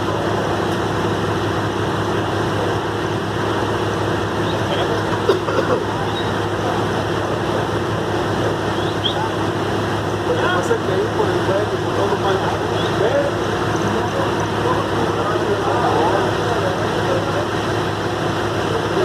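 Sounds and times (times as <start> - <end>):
faint voices: 0.0 - 19.0
truck diesel engine running: 0.0 - 19.0.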